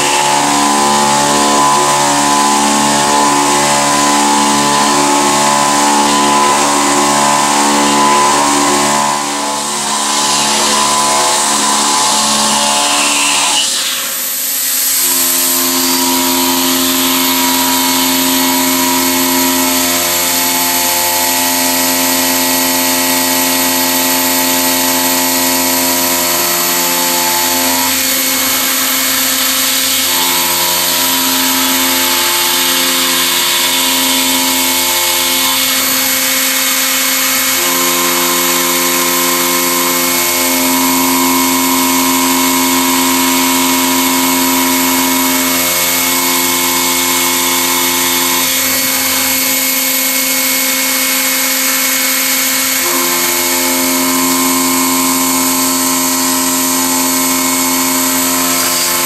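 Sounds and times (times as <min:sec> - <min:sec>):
milling machine motor tones: 0:00.0 - 0:59.0.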